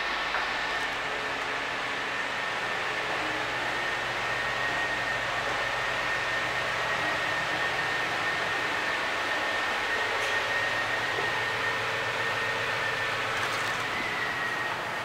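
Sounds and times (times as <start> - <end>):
ship machinery noise: 0.0 - 15.0.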